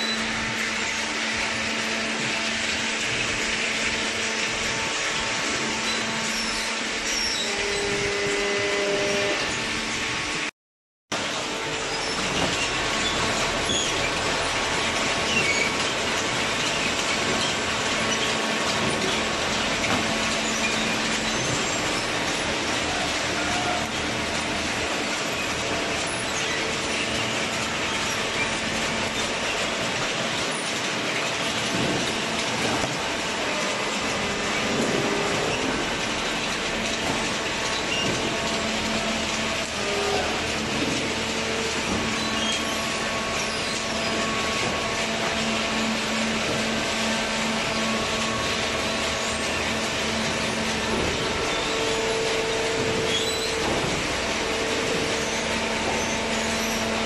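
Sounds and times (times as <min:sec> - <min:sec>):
baler mechanical clatter: 0:11.2 - 0:57.0.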